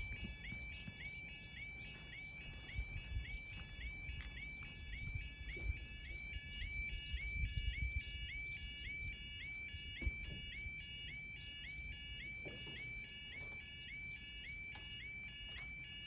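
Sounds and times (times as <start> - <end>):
level crossing yodel alarm: 0.0 - 16.0.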